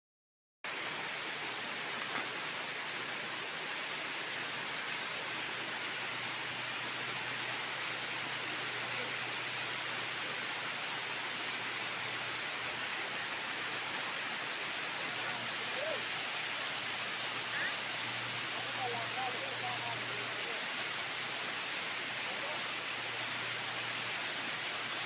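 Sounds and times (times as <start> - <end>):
flowing water rushing: 0.7 - 25.0.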